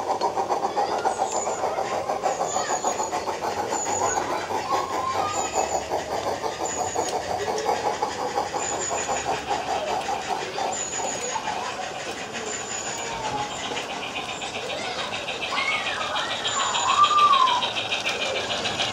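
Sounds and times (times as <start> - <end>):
steam locomotive chuffing: 0.0 - 18.9.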